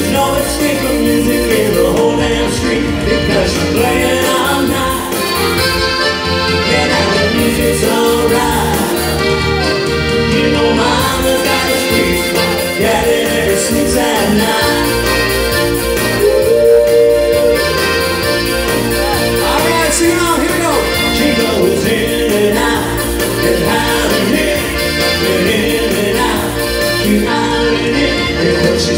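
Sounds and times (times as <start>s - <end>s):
accordion dance tune: 0.0s - 28.9s
steady bass accompaniment: 0.0s - 28.9s.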